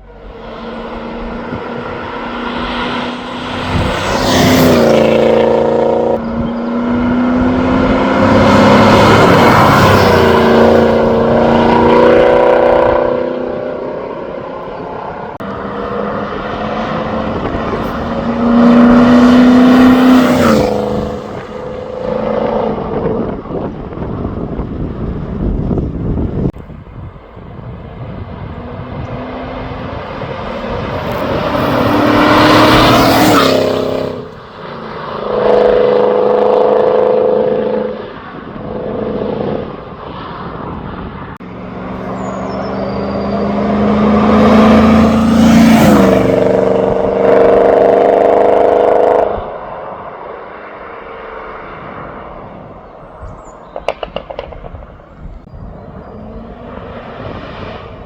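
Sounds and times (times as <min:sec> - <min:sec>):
car engine driving past: 0:00.2 - 0:22.9, 0:28.1 - 0:34.5, 0:35.3 - 0:54.8.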